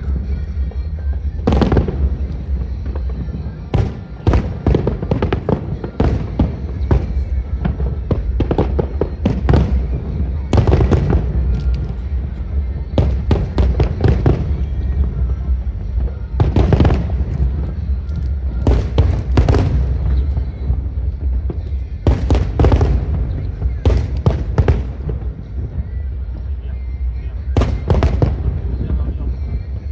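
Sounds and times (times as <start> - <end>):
deep rumble: 0.0 - 29.9
fireworks bangs and crackles: 0.0 - 29.9.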